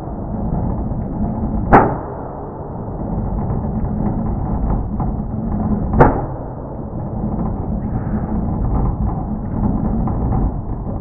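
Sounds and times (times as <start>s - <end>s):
engine backfire bang: 0.3s - 10.0s.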